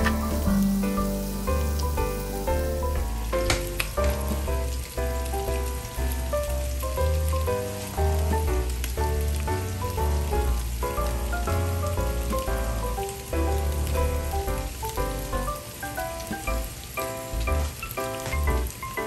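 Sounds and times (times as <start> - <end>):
background music with bass: 0.0 - 18.8
fish sizzling in frying pan: 0.0 - 19.0.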